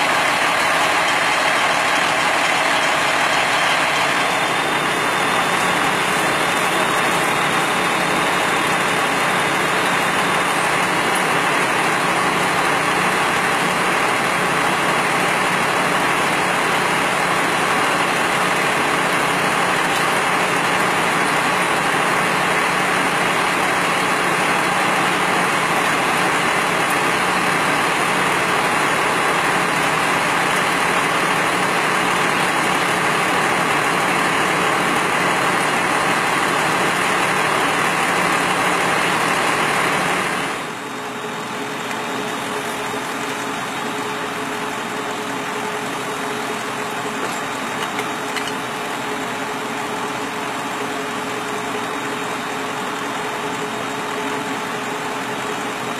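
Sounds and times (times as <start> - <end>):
fire truck engine running: 0.0 - 55.9.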